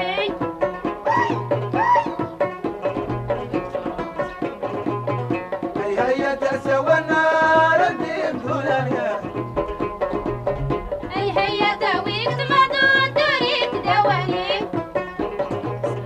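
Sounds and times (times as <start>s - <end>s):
low drum beat: 0.0s - 16.0s
plucked lutes: 0.0s - 16.0s.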